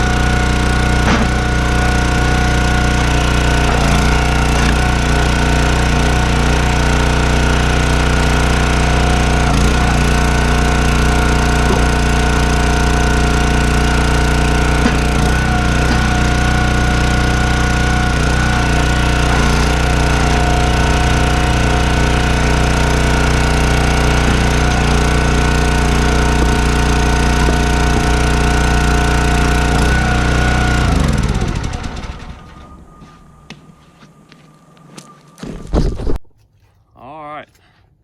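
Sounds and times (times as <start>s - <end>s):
engine running and winding down: 0.0s - 35.7s.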